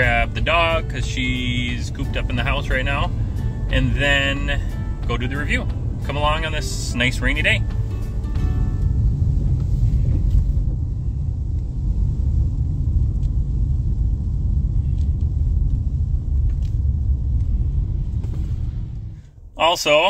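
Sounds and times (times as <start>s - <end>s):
car driving on wet road: 0.0s - 20.0s.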